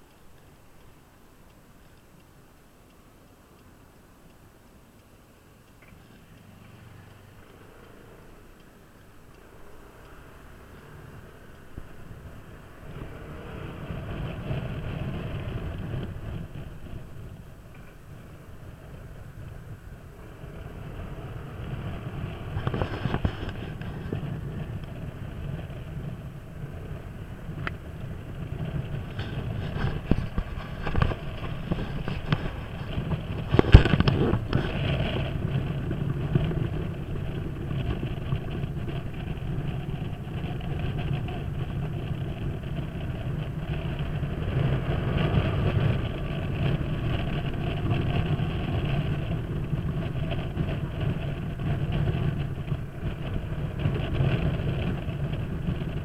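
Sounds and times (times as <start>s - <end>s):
wind and road noise: 0.0s - 56.0s
scooter engine running: 6.0s - 56.0s.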